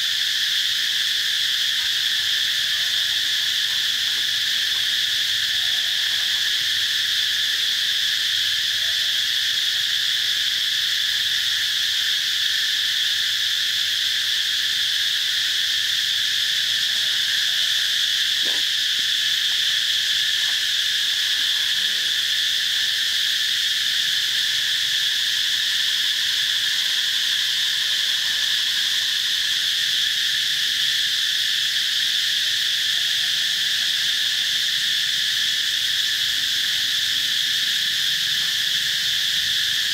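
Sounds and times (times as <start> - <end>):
insects shrilling: 0.0 - 10.0, 10.6 - 39.9.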